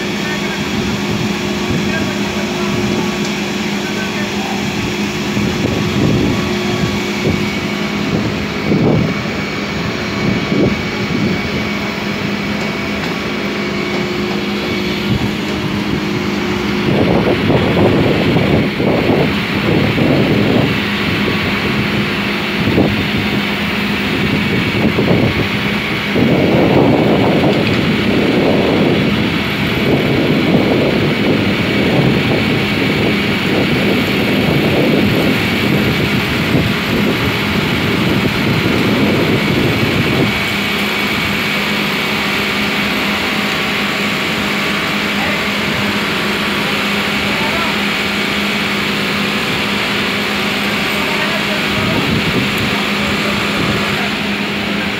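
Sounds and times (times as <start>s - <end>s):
tile saw motor hum and whine: 0.0s - 54.9s.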